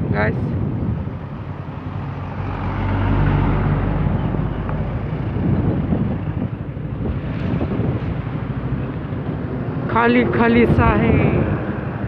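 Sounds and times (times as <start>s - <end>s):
wind rushing over microphone: 0.0s - 12.0s
truck diesel engine passing: 0.6s - 12.0s.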